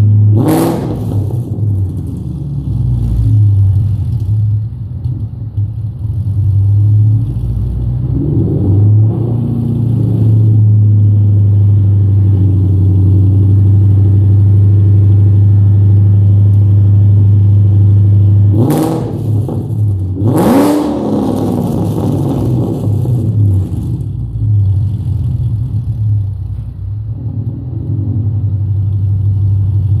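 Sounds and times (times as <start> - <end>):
engine revving: 0.0 - 4.0, 6.2 - 26.4
car engine idling: 0.0 - 8.2, 9.4 - 30.0.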